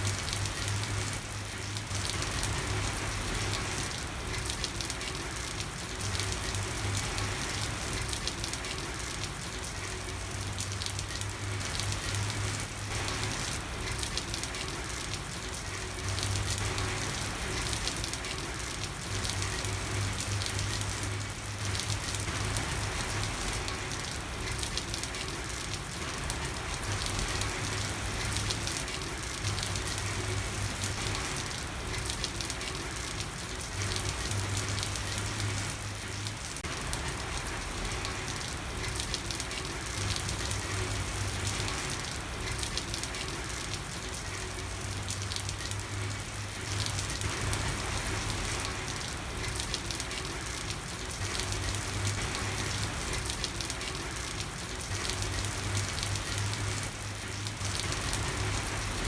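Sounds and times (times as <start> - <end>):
rain falling on street: 0.0 - 59.0.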